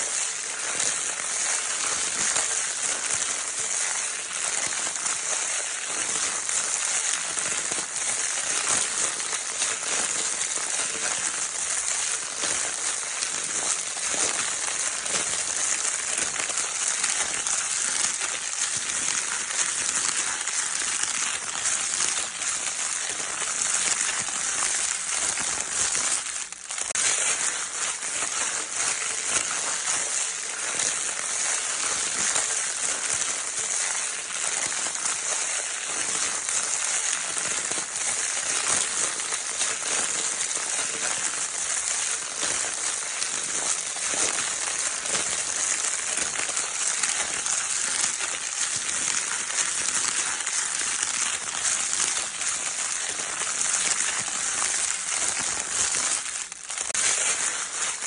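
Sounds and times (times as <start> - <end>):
crinkle paper rustling: 0.0 - 58.0.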